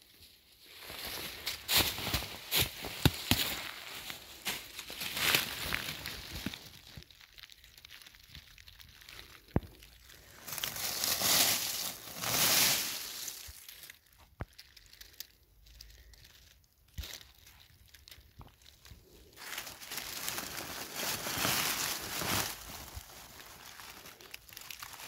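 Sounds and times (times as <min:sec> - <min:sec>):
dry leaves crackling and rustling: 0:00.0 - 0:25.0.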